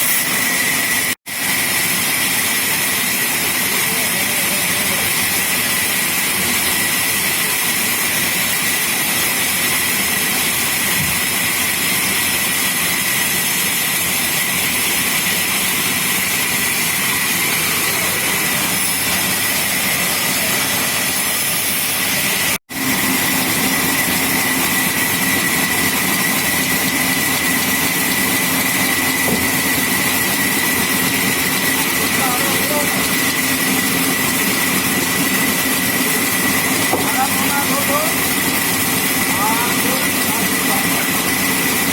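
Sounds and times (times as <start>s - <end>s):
sawmill machinery whirring: 0.0s - 41.9s.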